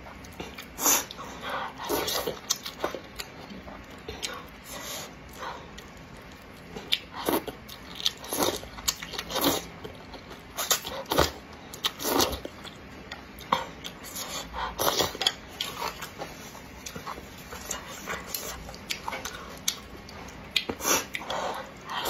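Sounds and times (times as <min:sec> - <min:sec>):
noodles being slurped and chewed: 0:00.1 - 0:22.0.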